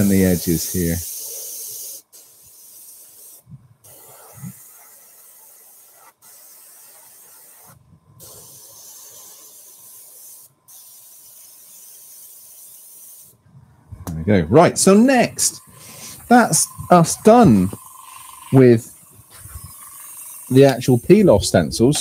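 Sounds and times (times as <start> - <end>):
airbrush spraying hiss: 0.0 - 13.4, 14.8 - 22.0.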